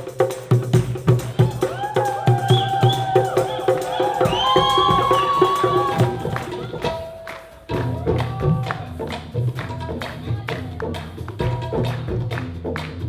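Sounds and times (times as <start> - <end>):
percussion strokes: 0.0 - 13.0.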